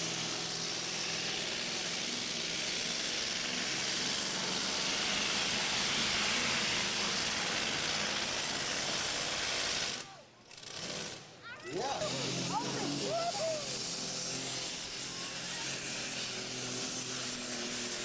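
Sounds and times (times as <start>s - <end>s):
vehicle engine running hard: 0.0s - 18.0s.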